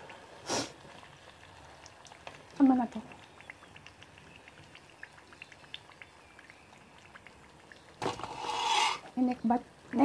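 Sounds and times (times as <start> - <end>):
loud frying sizzle: 0.0 - 10.0.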